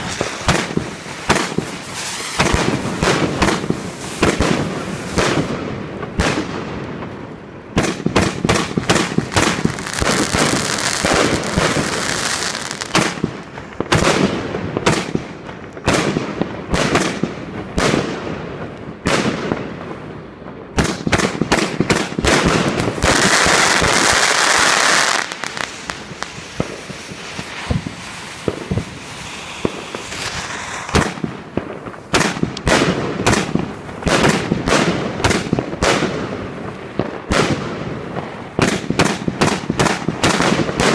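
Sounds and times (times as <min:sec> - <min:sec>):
firework crackling hiss: 0:00.0 - 0:18.2, 0:20.8 - 0:40.9.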